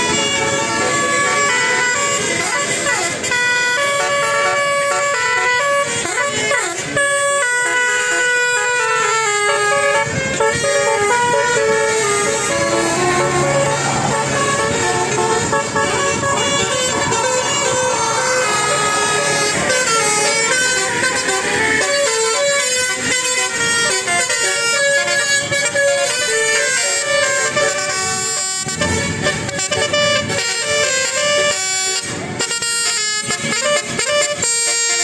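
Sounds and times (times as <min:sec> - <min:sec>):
bus musical horn playing tune: 0:00.0 - 0:35.0.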